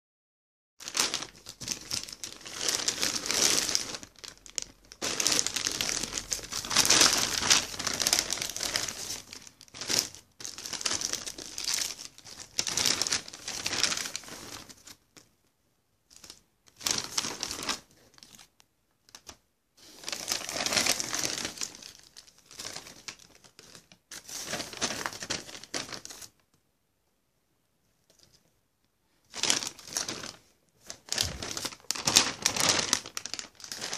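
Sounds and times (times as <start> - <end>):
packaging crinkling and rustling: 0.8 - 15.3, 16.1 - 26.4, 29.3 - 33.9.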